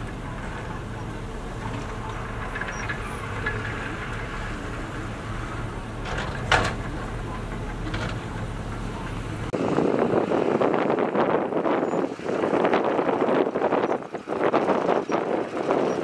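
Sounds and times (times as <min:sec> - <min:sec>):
diesel machinery engine drone: 0:00.0 - 0:16.0.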